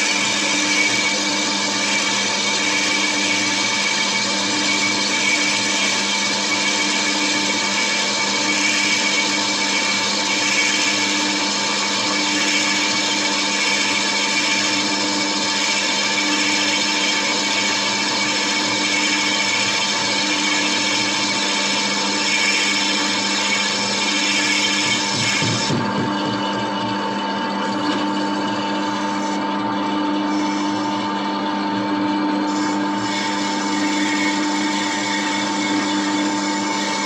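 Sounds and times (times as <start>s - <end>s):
lathe running and cutting: 0.0s - 37.0s.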